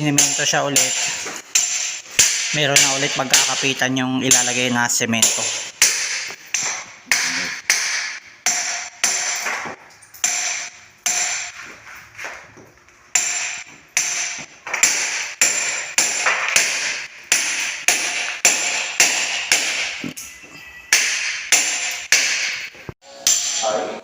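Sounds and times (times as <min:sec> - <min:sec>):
hammer striking steel chisel: 0:00.1 - 0:11.7, 0:13.1 - 0:24.0.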